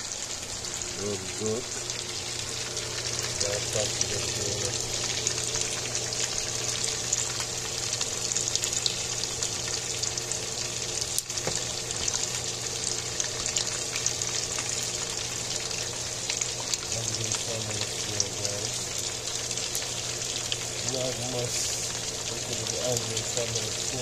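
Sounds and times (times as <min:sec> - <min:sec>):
chicken sizzling in oil: 0:00.0 - 0:24.0
steady low hum: 0:00.0 - 0:24.0.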